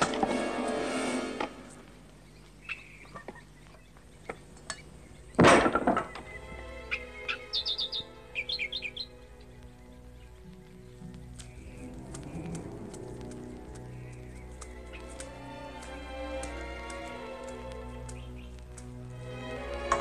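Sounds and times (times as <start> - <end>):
birds chirping: 0.0 - 20.0
faint background music: 0.0 - 20.0.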